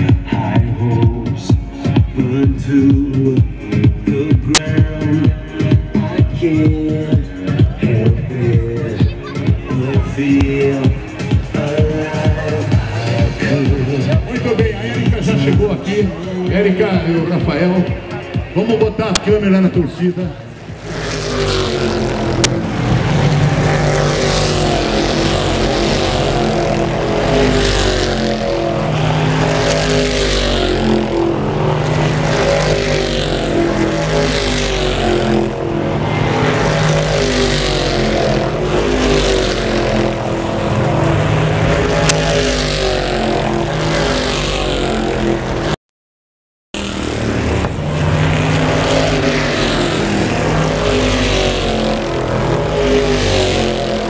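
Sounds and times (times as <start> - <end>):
race cars at high revs: 0.0 - 45.8, 46.8 - 54.0.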